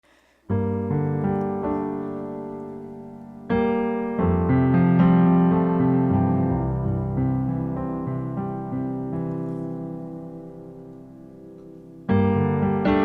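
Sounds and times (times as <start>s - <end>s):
slow piano chords: 0.4s - 13.0s.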